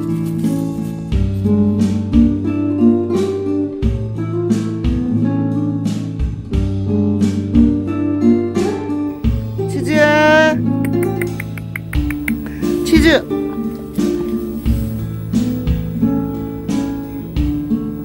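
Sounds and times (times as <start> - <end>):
acoustic guitar music with beat: 0.0 - 18.0.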